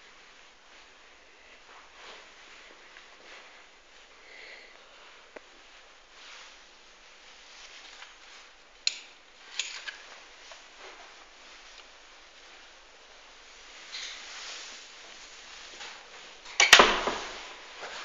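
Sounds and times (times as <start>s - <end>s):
room hiss: 0.0s - 18.0s.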